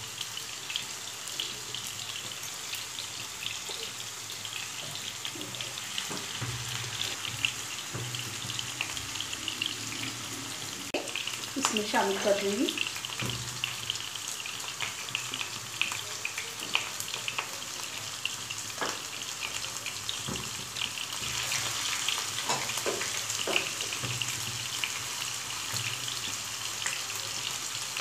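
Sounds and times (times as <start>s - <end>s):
kebabs sizzling in a frying pan: 0.0s - 28.0s.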